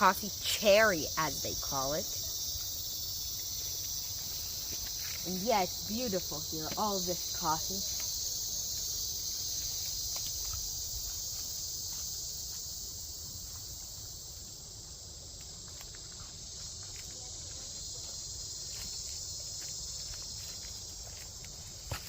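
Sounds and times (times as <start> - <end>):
cicadas singing: 0.0 - 22.0.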